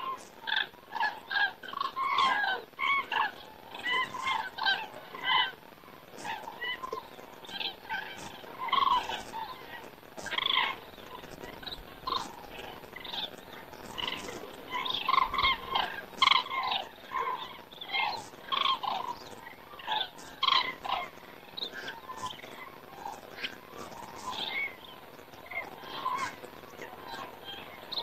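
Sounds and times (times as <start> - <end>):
cranes calling in flight: 0.0 - 5.6, 6.2 - 28.0.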